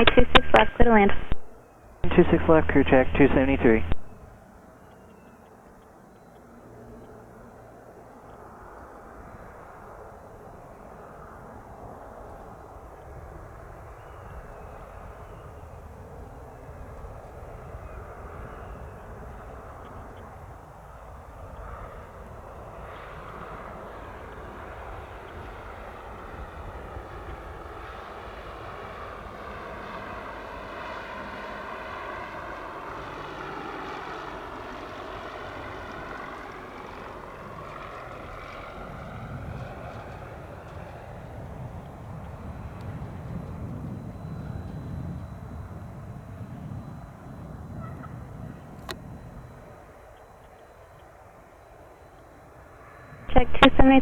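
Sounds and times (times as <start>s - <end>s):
propeller plane engine: 6.6s - 53.3s.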